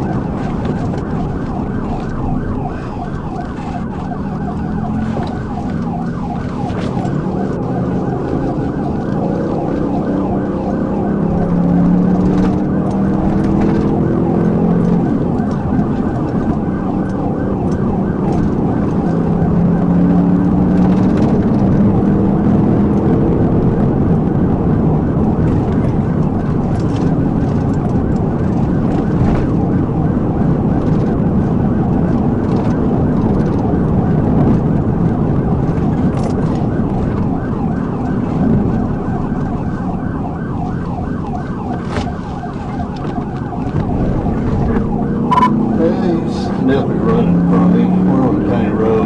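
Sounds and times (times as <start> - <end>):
car engine and road noise: 0.0 - 49.0
police siren cycling: 0.0 - 49.0.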